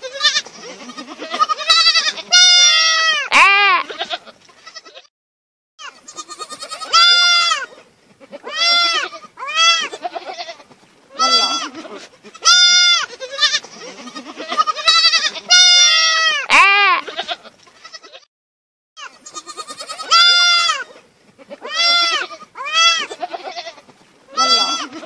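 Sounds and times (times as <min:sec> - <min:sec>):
goat and lamb bleating: 0:00.0 - 0:05.1, 0:05.8 - 0:18.3, 0:19.0 - 0:25.0.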